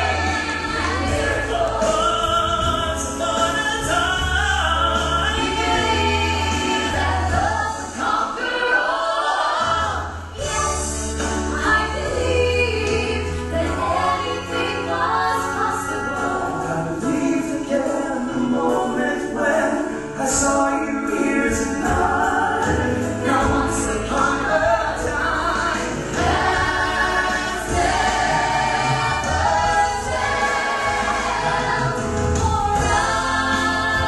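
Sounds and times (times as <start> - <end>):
group singing in harmony: 0.0 - 34.0
instrumental backing track: 0.0 - 34.0.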